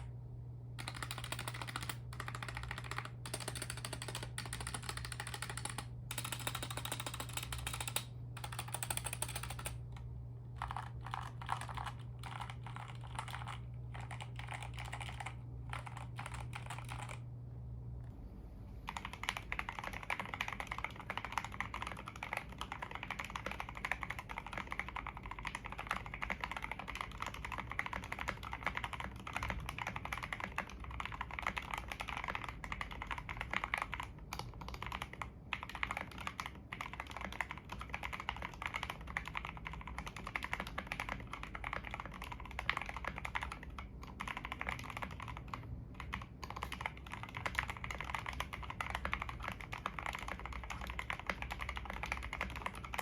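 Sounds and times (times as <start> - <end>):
fast mechanical keyboard typing: 0.8 - 10.0, 10.6 - 17.2, 18.9 - 53.0.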